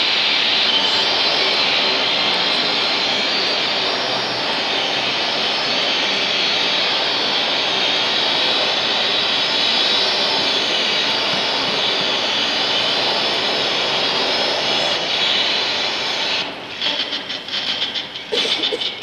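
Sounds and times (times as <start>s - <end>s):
steady rushing noise: 0.0s - 18.1s.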